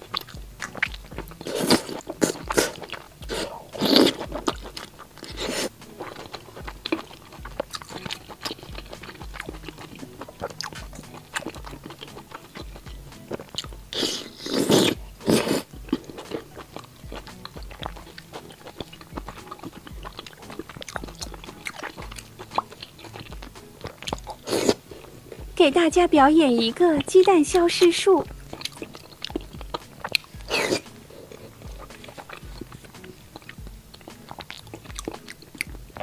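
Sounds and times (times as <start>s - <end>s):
wet mouth clicks: 0.0s - 25.5s, 28.2s - 36.0s
chewing soft meat: 0.0s - 25.6s, 26.6s - 36.0s.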